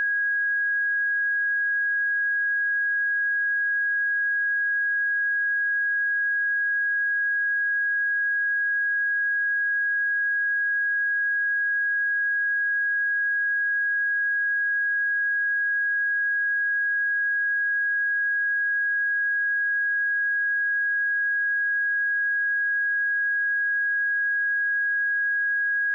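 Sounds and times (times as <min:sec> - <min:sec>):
sine-wave test tone: 0:00.0 - 0:25.9.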